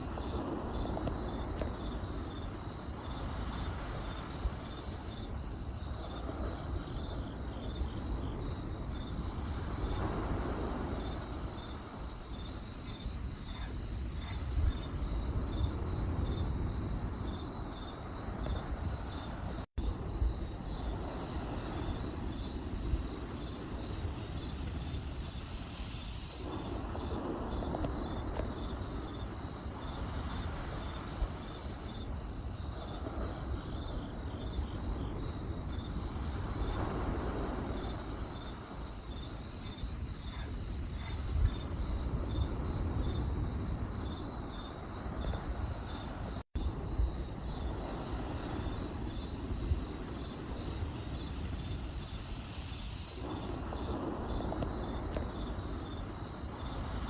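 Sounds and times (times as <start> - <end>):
campfire rumble: 0.0 - 57.0
crickets chirping: 0.0 - 57.0.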